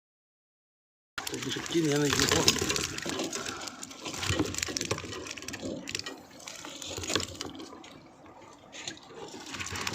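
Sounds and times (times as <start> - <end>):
fish splashing in water: 1.2 - 9.9.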